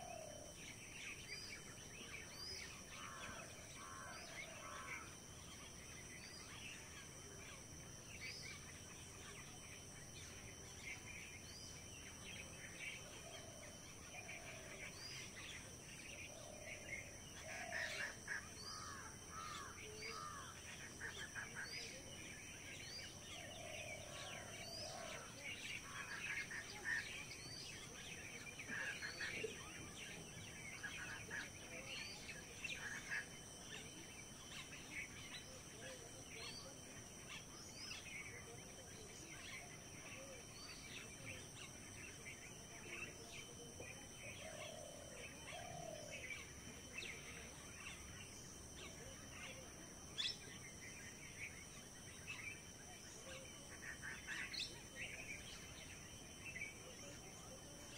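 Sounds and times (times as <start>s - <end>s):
steady high-pitched hum: 0.0s - 57.9s
birds chirping and calling: 7.6s - 57.9s.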